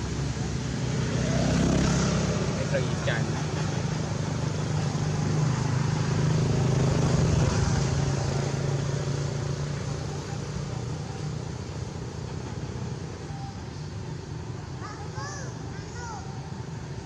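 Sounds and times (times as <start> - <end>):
vehicle engine passing by: 0.0 - 14.8.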